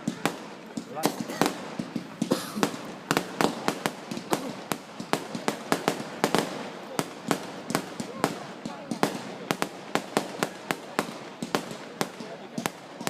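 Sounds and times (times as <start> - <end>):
fireworks bangs and cracks: 0.0 - 13.0.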